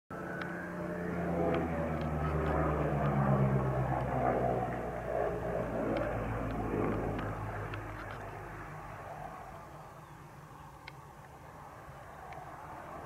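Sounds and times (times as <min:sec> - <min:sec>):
propeller aircraft droning overhead: 0:00.1 - 0:13.0.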